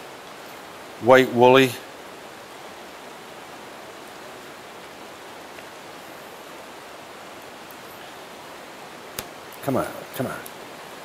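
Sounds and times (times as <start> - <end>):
stream water rushing over riffles: 0.0 - 11.0.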